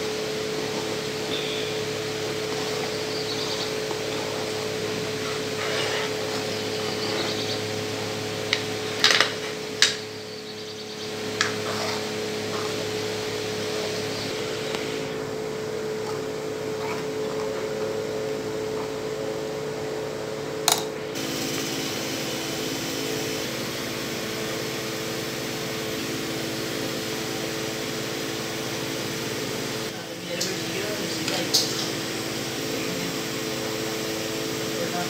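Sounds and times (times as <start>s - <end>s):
kitchen appliance humming: 0.0s - 35.0s.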